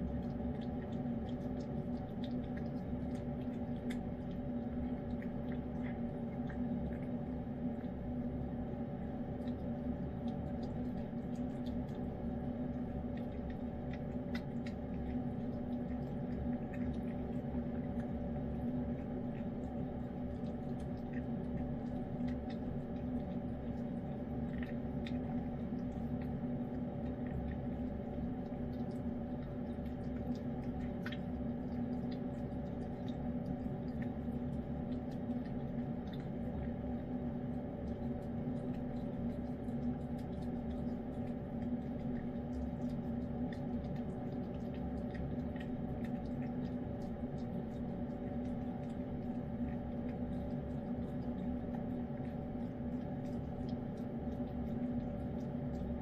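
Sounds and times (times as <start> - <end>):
cat licking and eating wet food: 0.0 - 56.0
steady low hum with tones: 0.0 - 56.0.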